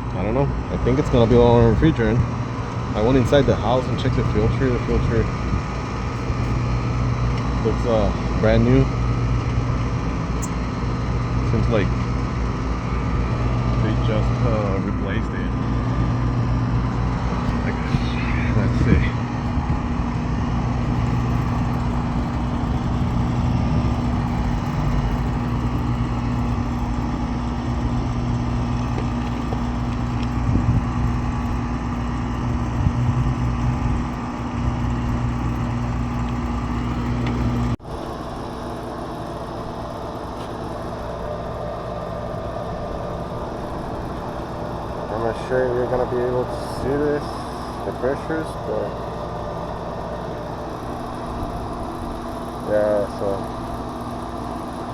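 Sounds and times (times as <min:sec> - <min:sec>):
air conditioner unit humming: 0:00.0 - 0:54.9
low electrical drone: 0:00.0 - 0:54.9.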